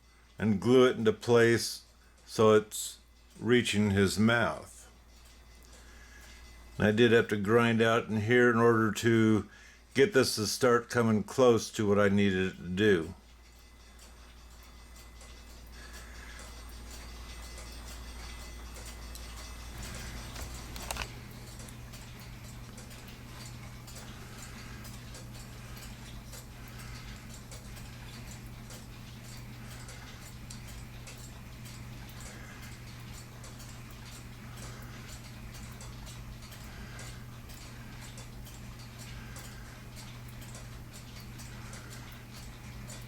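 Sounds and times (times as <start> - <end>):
low steady hum: 0.0 - 43.0
clock ticking: 0.2 - 43.0.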